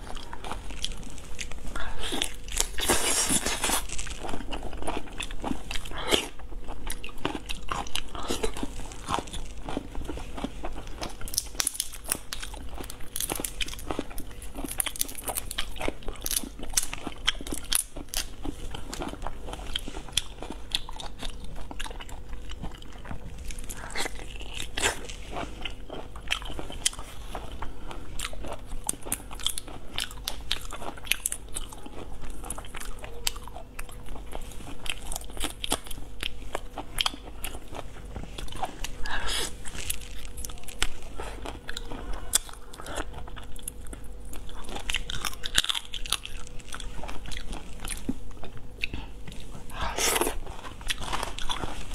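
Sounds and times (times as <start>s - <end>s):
person biting and chewing: 0.0s - 51.9s.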